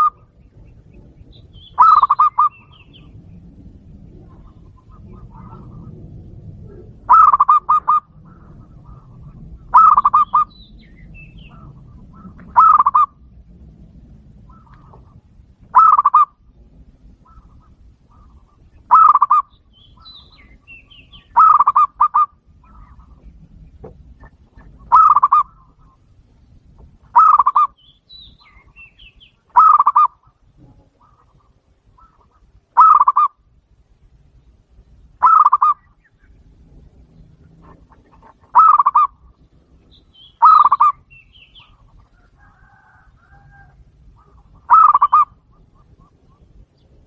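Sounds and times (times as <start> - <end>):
dove cooing: 0.0 - 13.5, 14.1 - 26.1, 27.1 - 27.8, 28.4 - 33.5, 35.1 - 46.8.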